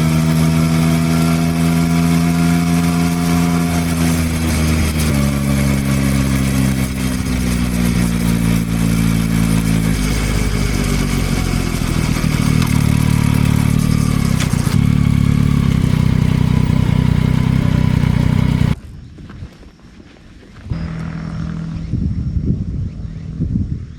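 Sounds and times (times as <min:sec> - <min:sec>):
motorcycle engine running: 0:00.0 - 0:18.8, 0:20.7 - 0:23.7.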